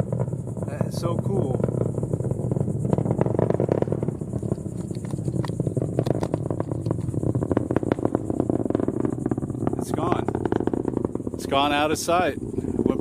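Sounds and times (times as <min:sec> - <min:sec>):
distant rocket launch roar: 0:00.0 - 0:13.0
rocket engine crackling: 0:00.0 - 0:13.0.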